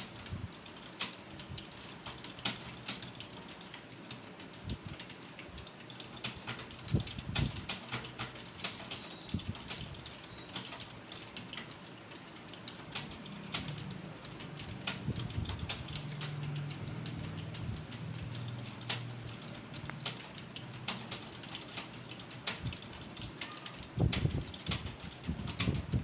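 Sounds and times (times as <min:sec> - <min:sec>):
keyboard typing: 0:00.0 - 0:26.0.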